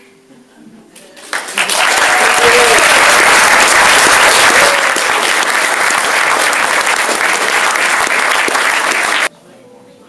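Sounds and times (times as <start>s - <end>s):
audience applauding: 1.2s - 9.3s.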